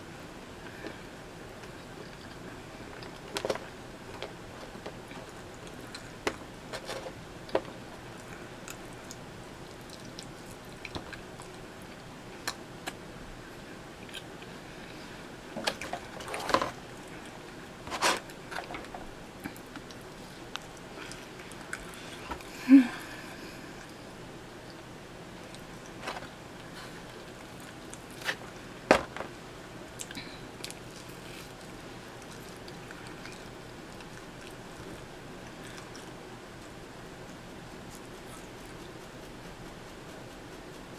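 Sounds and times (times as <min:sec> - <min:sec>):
person chewing pizza: 0:00.6 - 0:13.0, 0:13.6 - 0:15.1, 0:15.7 - 0:24.0, 0:24.6 - 0:28.7, 0:29.9 - 0:40.9.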